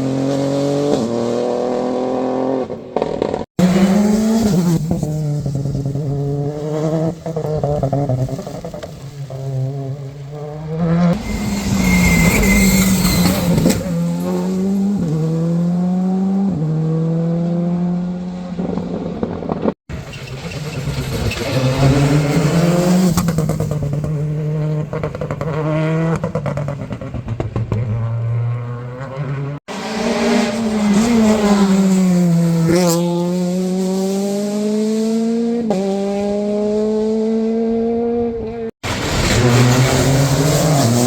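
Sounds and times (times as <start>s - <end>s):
rally cars accelerating hard: 0.0s - 41.0s.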